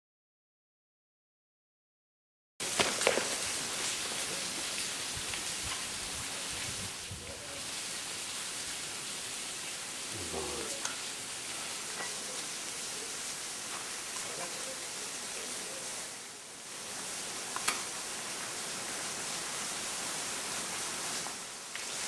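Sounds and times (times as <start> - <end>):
steady rushing hiss: 2.6 - 22.0.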